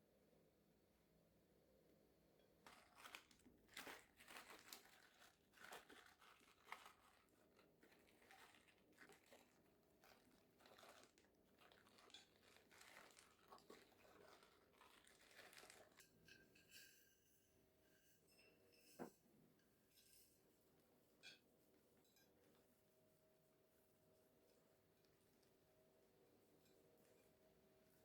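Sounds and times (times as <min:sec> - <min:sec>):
faint crinkling and rustling: 0:02.4 - 0:17.4, 0:18.0 - 0:28.0.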